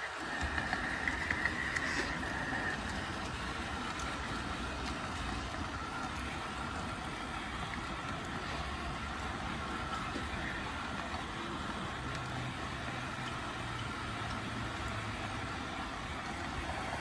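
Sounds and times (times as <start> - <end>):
wheels rumbling on track: 0.0 - 17.0.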